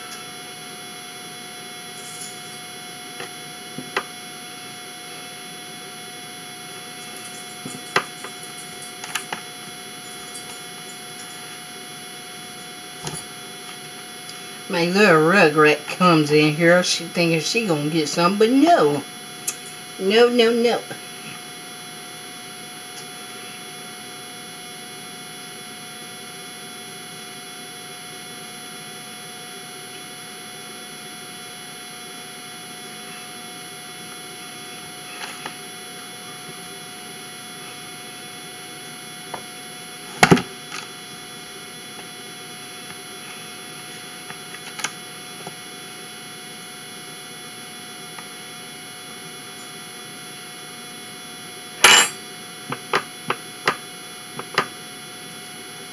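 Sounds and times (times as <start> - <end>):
electrical hum with whining tones: 0.0 - 55.9.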